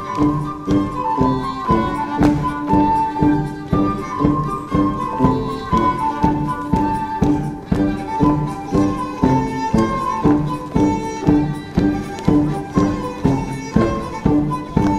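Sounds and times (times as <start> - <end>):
drum beat: 0.0 - 14.9
folk dance tune by ensemble: 0.0 - 14.9.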